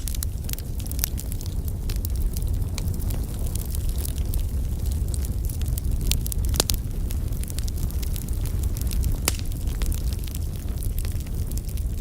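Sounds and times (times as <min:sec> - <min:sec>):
fire rumbling in fireplace: 0:00.0 - 0:12.0
wood crackling and popping: 0:00.0 - 0:12.0.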